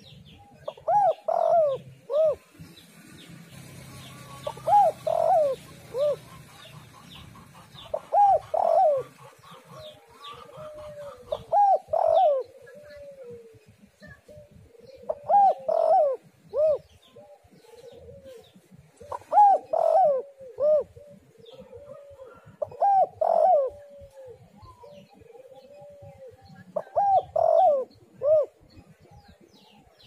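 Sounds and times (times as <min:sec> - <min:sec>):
dove cooing: 0:00.0 - 0:30.0.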